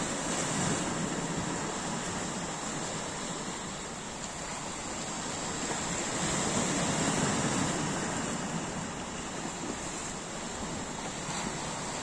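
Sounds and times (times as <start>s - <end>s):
waves washing onto rocky shore: 0.0s - 12.0s.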